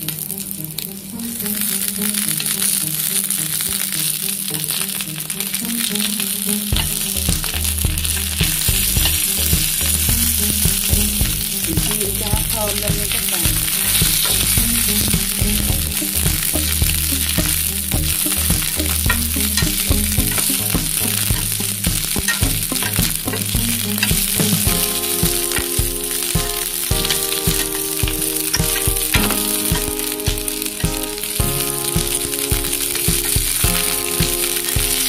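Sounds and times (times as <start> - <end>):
sausages sizzling in oil: 5.8 - 35.0.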